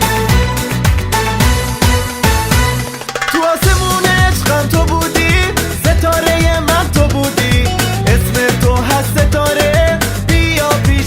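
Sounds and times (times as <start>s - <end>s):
upbeat latin-style music: 0.0s - 11.0s.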